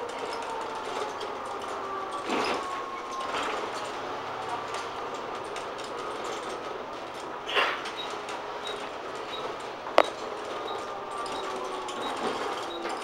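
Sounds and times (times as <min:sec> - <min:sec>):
bus running noise: 0:00.0 - 0:13.0.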